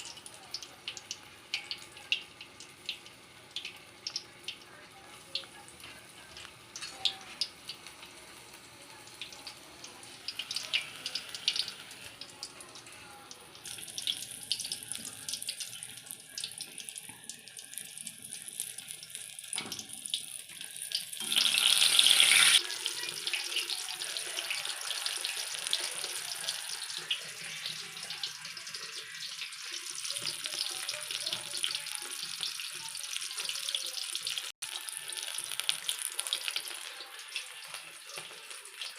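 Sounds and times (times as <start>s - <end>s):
food deep-frying in hot oil: 0.0s - 38.9s.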